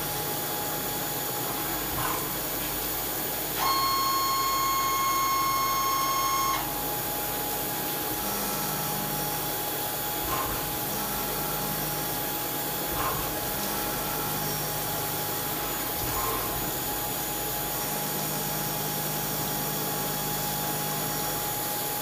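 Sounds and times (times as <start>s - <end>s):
milling machine with high tone: 0.0s - 22.0s.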